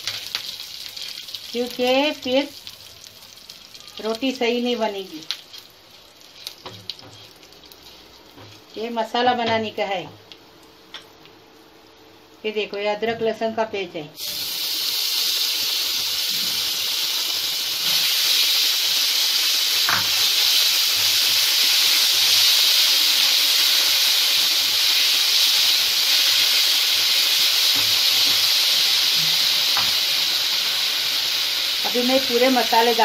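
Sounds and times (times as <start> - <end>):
paste sizzling in hot oil: 0.0 - 9.4, 14.2 - 33.0.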